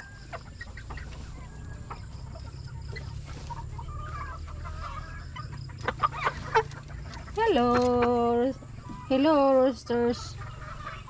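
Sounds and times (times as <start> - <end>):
chickens clucking: 0.0 - 11.0
steady low hum: 0.0 - 11.0.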